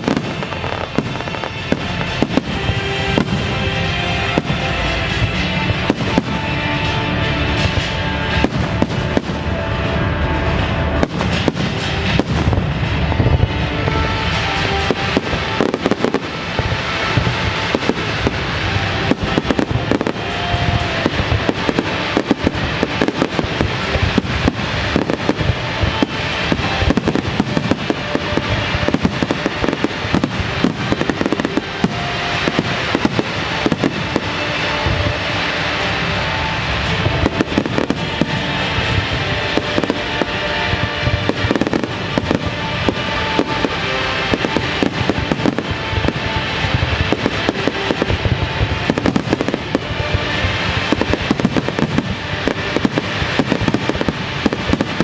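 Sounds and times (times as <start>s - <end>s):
fireworks bursting: 0.0s - 55.0s
music soundtrack: 0.0s - 55.0s.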